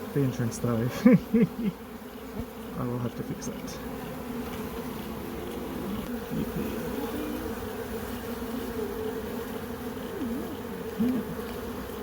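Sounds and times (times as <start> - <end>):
bee swarm humming: 0.0 - 12.0
bees flying past: 0.0 - 12.0.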